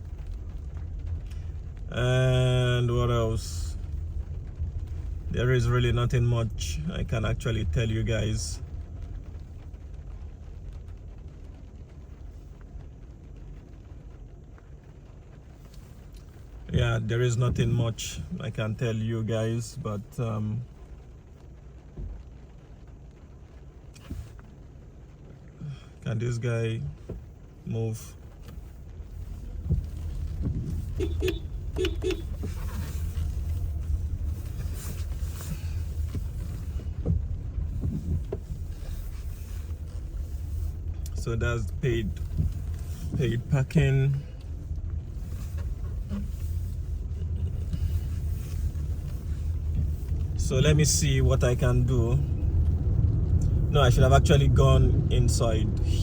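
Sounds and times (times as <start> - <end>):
car rumbling from inside cabin: 0.0 - 56.0.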